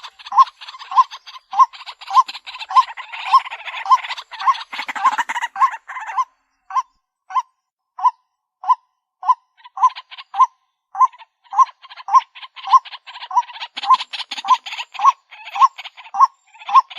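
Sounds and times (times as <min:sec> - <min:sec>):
waterhen croaking call: 0:00.0 - 0:07.4, 0:08.0 - 0:16.9.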